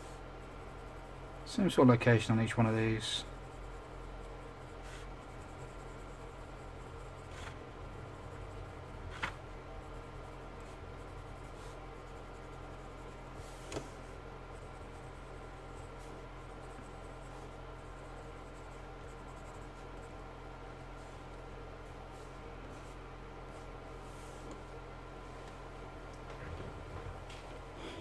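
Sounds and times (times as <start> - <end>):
room hum: 0.0 - 28.0.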